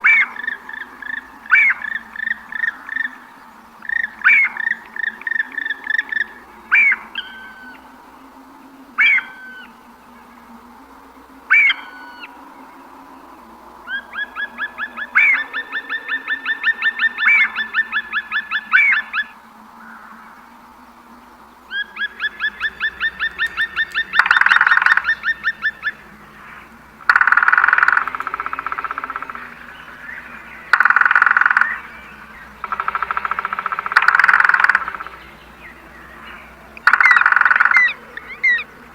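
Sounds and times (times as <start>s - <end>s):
harsh rasping bird calls: 0.0s - 38.9s
songbirds singing: 0.0s - 38.9s.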